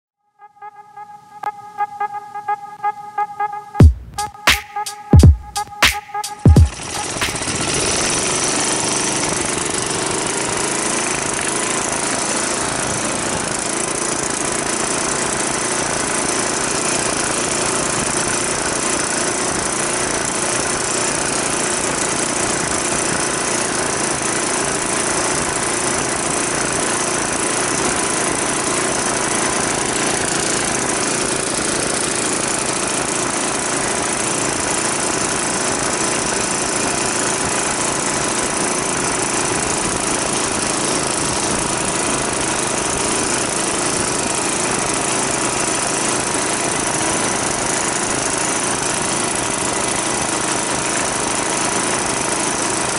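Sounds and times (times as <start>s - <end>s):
small engine running: 6.6s - 52.9s.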